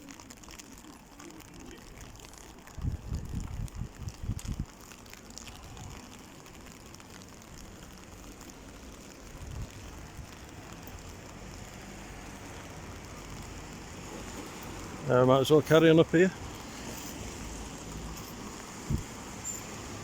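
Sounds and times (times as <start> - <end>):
rain on wet street: 0.0 - 20.0.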